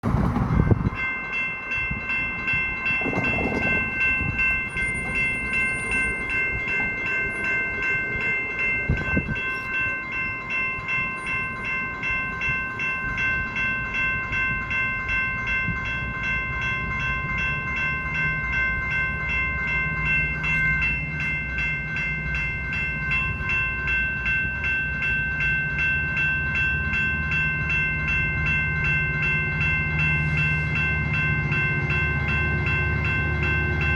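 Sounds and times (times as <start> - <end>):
railroad crossing bells ringing: 0.0 - 33.9
train rumble: 0.0 - 33.9.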